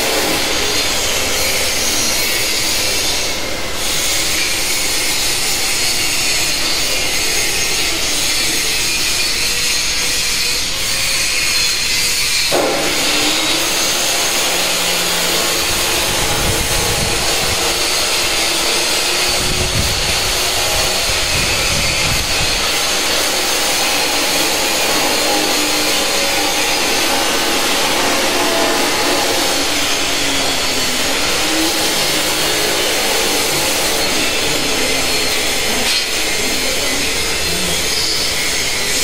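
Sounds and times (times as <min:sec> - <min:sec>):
machine hissing whir: 0:00.0 - 0:39.0.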